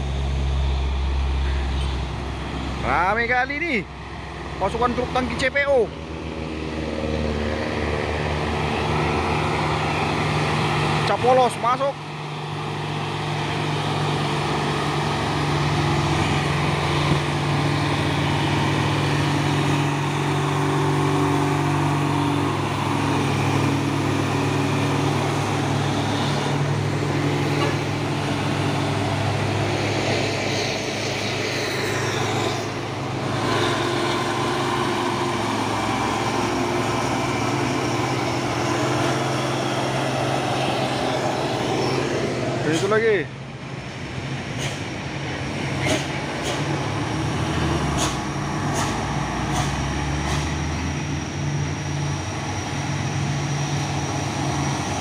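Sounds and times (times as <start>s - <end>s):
diesel truck engines droning: 0.0s - 55.0s.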